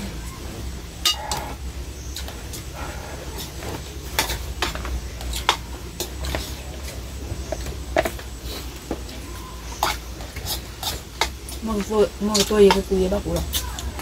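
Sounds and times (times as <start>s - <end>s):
low steady hum: 0.0s - 14.0s
cutlery clinking on enamel bowls: 1.0s - 2.7s, 3.4s - 8.3s, 9.0s - 14.0s.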